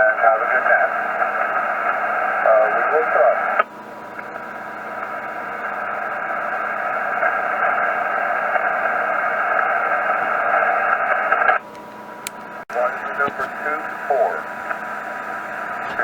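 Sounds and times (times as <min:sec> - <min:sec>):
radio static hiss: 0:00.0 - 0:11.7, 0:12.5 - 0:16.0.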